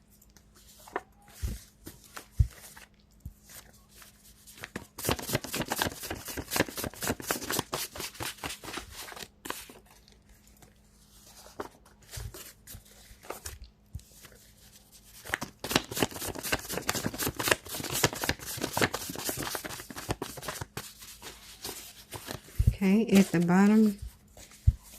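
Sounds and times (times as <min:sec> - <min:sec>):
cards being shuffled: 0:00.3 - 0:24.9.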